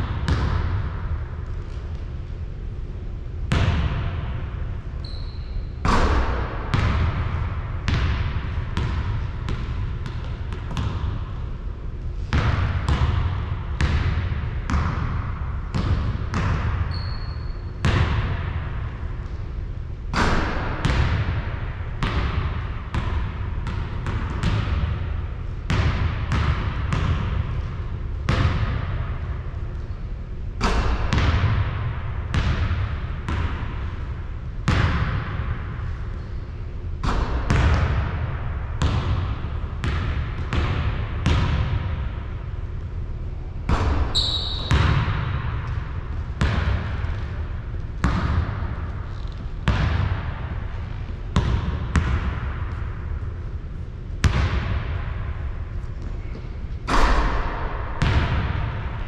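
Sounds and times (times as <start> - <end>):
basketball bouncing on hard court: 0.0 - 1.1, 3.5 - 4.3, 5.0 - 11.4, 12.2 - 19.4, 20.1 - 29.4, 30.6 - 35.8, 37.0 - 42.2, 43.7 - 53.3, 54.2 - 55.4, 56.0 - 59.0
steady low rumble: 0.0 - 5.0, 5.6 - 16.9, 17.7 - 44.1, 44.7 - 59.0.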